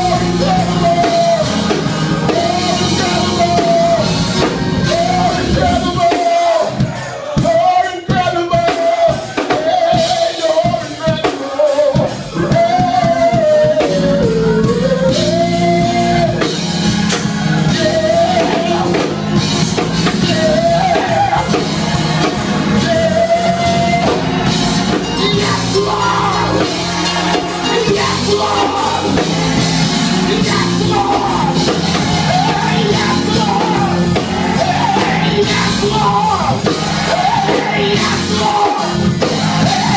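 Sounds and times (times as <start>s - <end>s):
person singing: 0.0s - 16.5s, 17.6s - 39.9s
band with drums: 0.0s - 39.9s.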